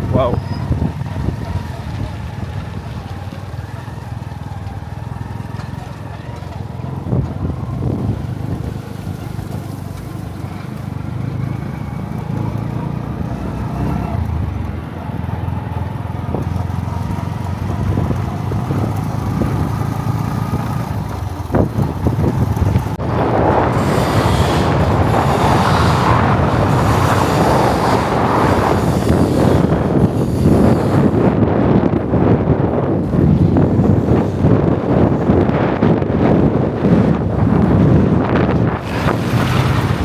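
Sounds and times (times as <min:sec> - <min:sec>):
vehicle engine running: 0:00.0 - 0:40.0
wind rushing over microphone: 0:00.0 - 0:40.0.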